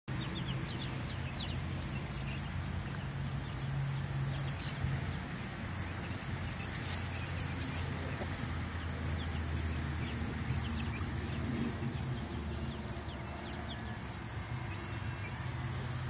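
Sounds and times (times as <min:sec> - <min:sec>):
high-pitched insect chorus: 0:00.2 - 0:16.0.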